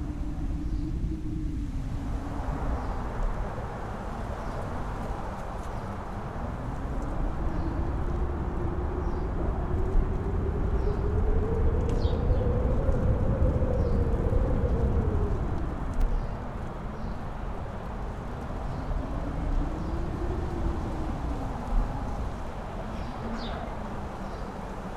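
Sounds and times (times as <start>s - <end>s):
strong wind rumbling on microphone: 0.0s - 24.9s
wind howling: 0.0s - 24.9s.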